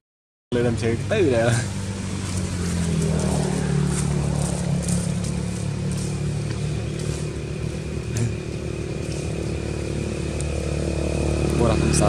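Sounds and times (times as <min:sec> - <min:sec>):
vehicle engine running: 0:00.5 - 0:12.0.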